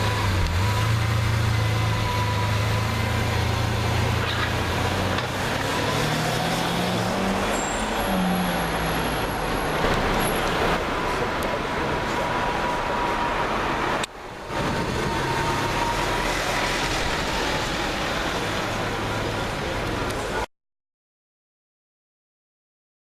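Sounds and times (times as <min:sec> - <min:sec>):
street traffic noise: 0:00.0 - 0:20.5.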